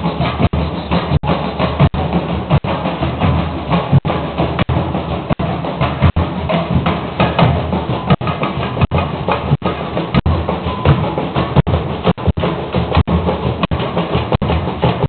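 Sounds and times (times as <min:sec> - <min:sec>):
pounding bass drums: 0:00.0 - 0:15.0
snare drum: 0:00.0 - 0:15.0.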